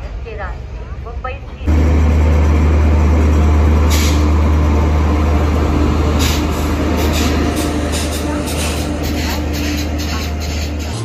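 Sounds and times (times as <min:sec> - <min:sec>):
electric locomotive hum and rumble: 0:00.0 - 0:11.0.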